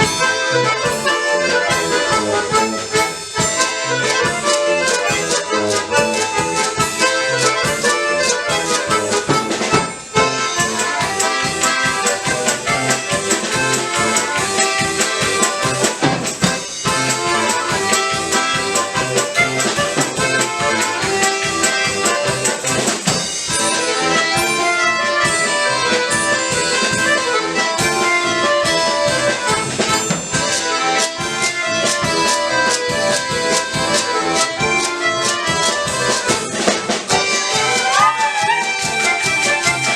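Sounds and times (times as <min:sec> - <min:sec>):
accordion orchestra playing lively tune: 0:00.0 - 0:39.9.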